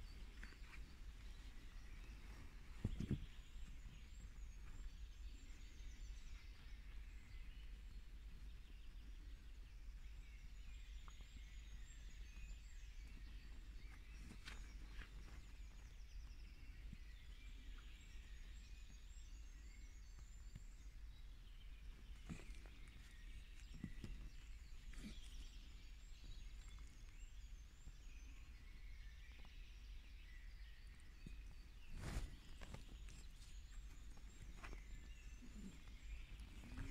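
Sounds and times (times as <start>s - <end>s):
soft bird chirps: 0.0s - 36.9s.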